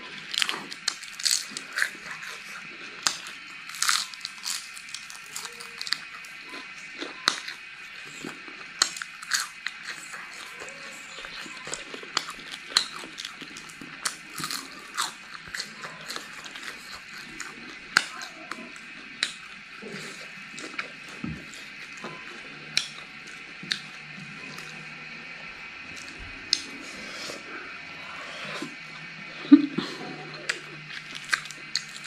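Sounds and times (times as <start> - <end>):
crunchy chewing: 0.0 - 29.2, 29.9 - 32.0
faint high-pitched hum: 0.0 - 32.0.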